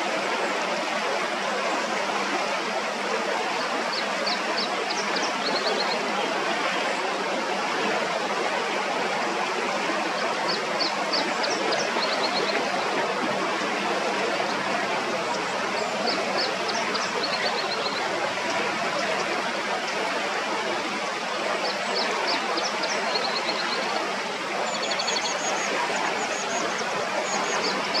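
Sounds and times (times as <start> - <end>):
river running over rocks: 0.0 - 28.0.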